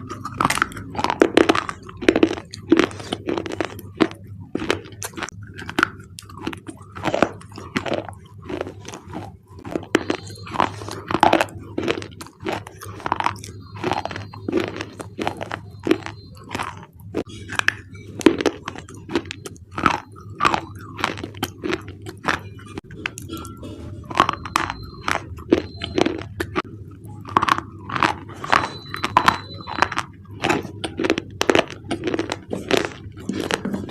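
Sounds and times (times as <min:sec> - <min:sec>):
crunching and chewing slate: 0:00.0 - 0:33.9.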